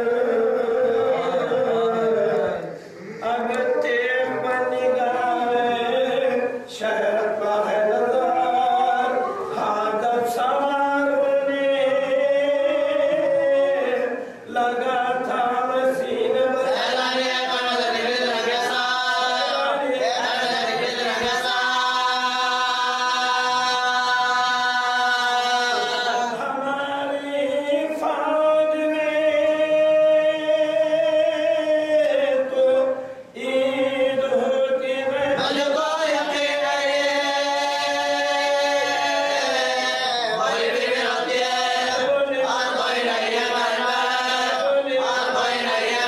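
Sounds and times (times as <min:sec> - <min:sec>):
man chanting: 0:00.0 - 0:46.0.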